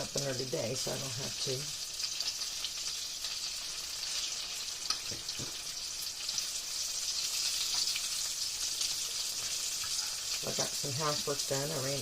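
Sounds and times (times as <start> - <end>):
slices frying in hot oil: 0.0 - 12.0.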